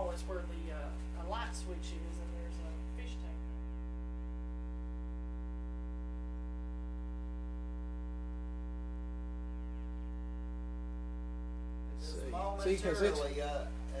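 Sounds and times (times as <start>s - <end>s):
buzzy electrical mains hum: 0.0s - 14.0s.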